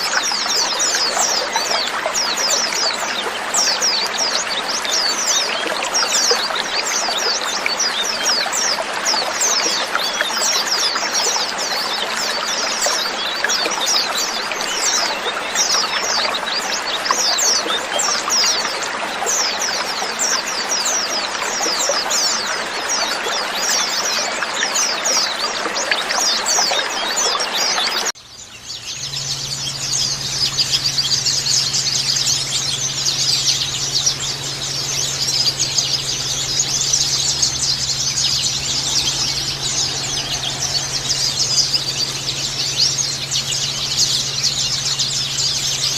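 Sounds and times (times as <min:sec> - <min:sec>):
flock of birds chirping: 0:00.0 - 0:45.9.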